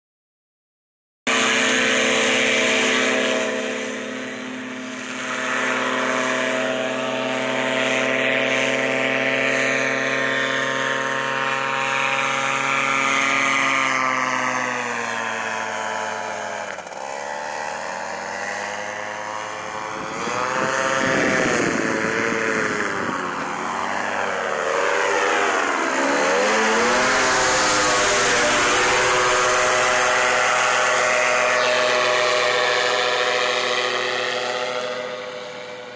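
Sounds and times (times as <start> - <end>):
paraglider engine droning buzz: 1.3 - 35.9.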